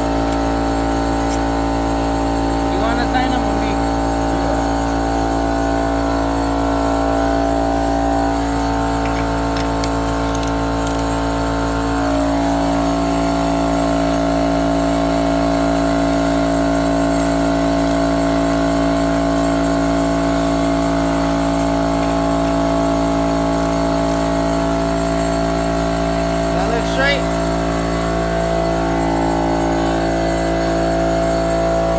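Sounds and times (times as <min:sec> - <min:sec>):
air compressor humming: 0:00.0 - 0:31.9.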